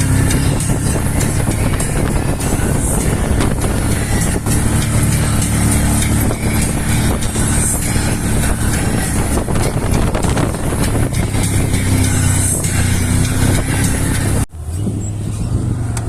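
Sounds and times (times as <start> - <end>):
vehicle engine while driving: 0.0 - 16.0.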